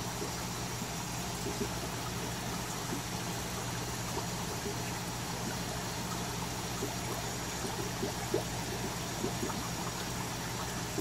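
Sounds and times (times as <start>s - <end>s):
filter bubbling: 0.0s - 11.0s.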